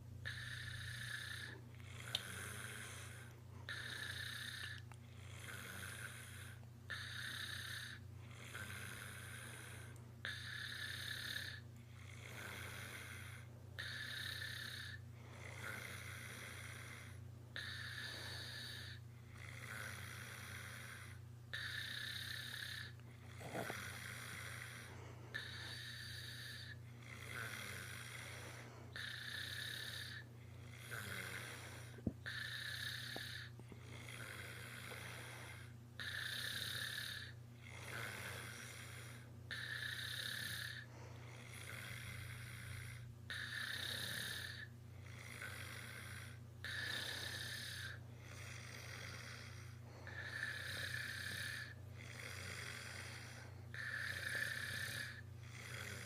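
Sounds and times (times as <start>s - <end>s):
loud rasping snoring: 0.2s - 56.0s.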